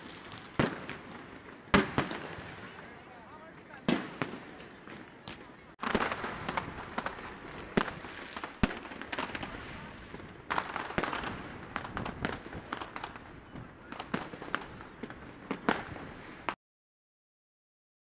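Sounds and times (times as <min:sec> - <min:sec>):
crowd hubbub: 0:00.0 - 0:16.6
fireworks and firecrackers banging: 0:00.0 - 0:16.6.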